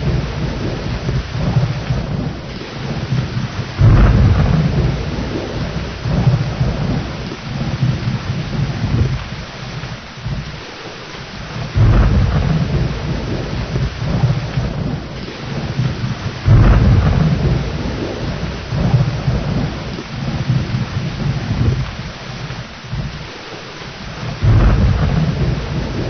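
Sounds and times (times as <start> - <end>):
loud thunder claps: 0.0 - 10.7, 11.3 - 26.0
rolling thunder: 0.0 - 10.7, 11.3 - 26.0
steady rain: 0.0 - 26.0.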